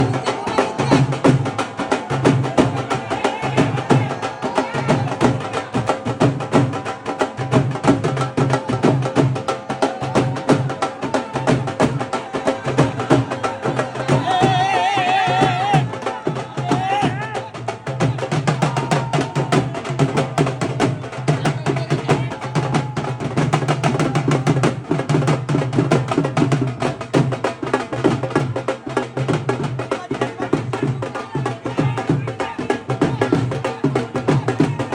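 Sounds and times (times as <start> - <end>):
music with fast drum beat: 0.0 - 34.9.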